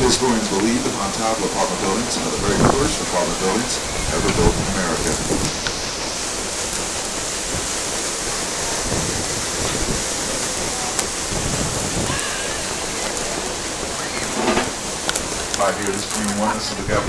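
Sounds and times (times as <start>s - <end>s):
rushing water from steamboat: 0.0s - 17.0s.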